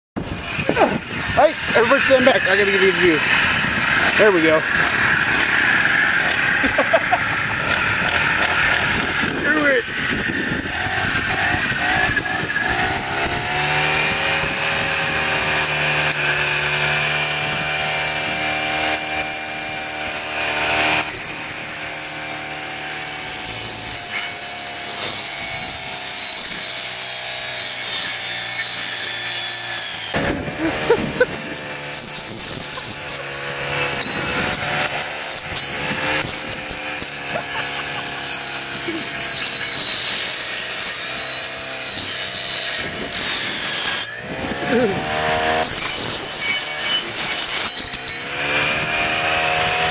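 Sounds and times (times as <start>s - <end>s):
high blade whine: 0.2s - 49.9s
trimmer engine revving: 0.2s - 49.9s.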